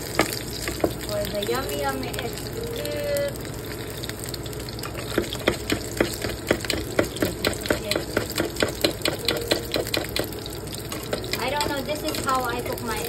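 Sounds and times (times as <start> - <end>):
egg sizzling in oil: 0.0 - 13.0.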